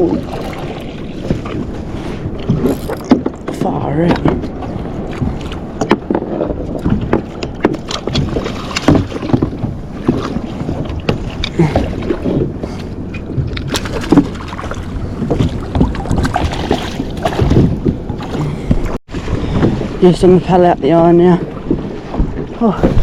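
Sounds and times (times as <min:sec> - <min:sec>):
knocks and clicks on a kayak: 0:00.0 - 0:20.0
rush of wind and water: 0:00.0 - 0:23.0.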